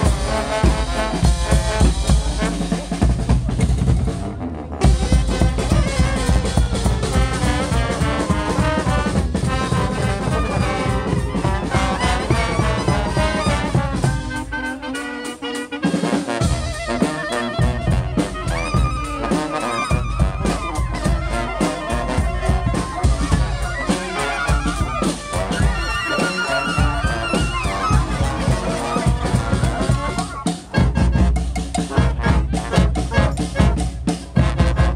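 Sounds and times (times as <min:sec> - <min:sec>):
brass band playing: 0:00.0 - 0:34.9
drums: 0:00.0 - 0:34.9.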